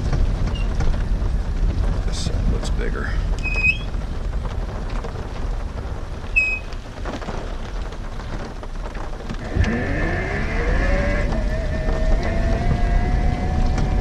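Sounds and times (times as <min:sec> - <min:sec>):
heavy rain: 0:00.0 - 0:14.0
wind noise: 0:00.0 - 0:14.0.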